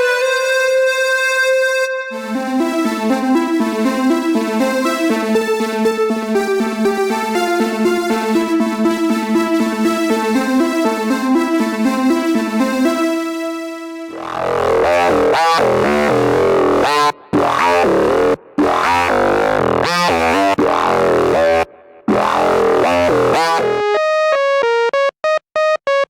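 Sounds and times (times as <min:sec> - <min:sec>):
synthesizer held note: 0:00.0 - 0:24.1
synthesizer arpeggio: 0:00.0 - 0:26.0.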